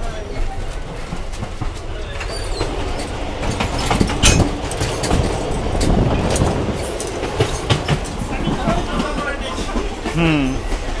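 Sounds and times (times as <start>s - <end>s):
railway carriage rumbling: 0.0s - 11.0s
wheels clacking over rail joints: 0.0s - 11.0s.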